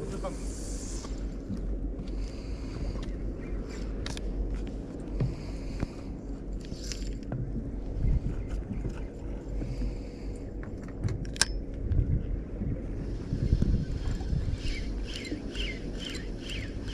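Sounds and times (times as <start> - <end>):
low steady hum: 0.0 - 16.9
wind rumble: 0.0 - 16.9.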